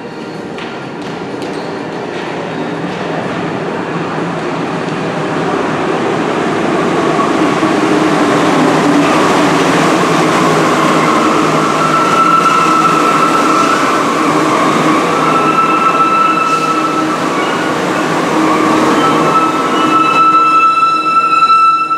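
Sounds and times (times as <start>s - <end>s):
subway train rumble: 0.0s - 21.9s.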